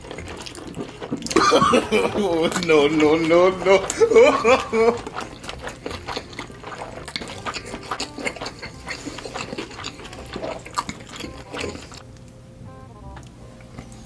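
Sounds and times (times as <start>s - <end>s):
wet chewing and lip smacking: 0.0s - 12.3s.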